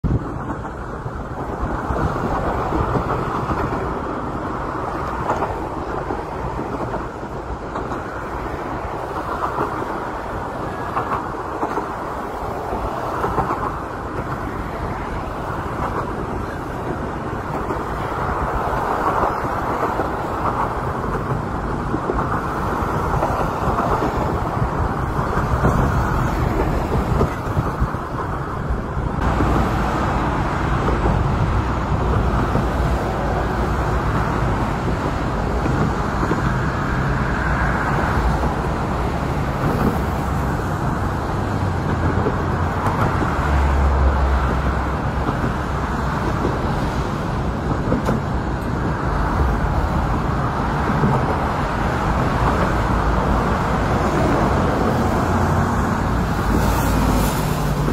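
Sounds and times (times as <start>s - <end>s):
city trains rumbling: 0.0s - 57.9s
road traffic: 0.0s - 57.9s.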